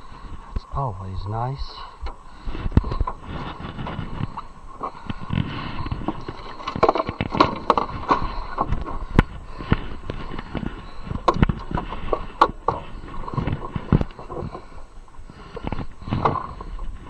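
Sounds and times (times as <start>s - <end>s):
knocks and clacks of gear: 1.6s - 14.7s, 15.5s - 17.0s.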